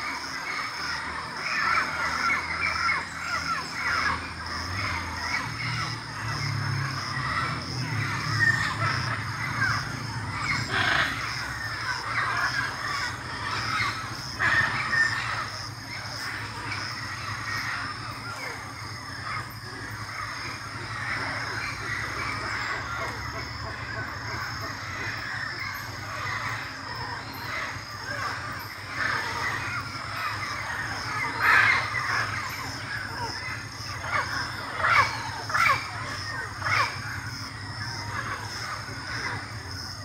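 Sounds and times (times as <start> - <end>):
parrots squawking: 0.0 - 39.8.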